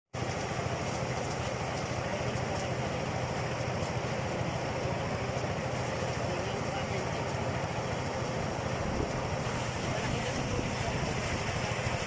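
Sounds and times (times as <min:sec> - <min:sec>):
thresher engine droning: 0:00.2 - 0:12.0.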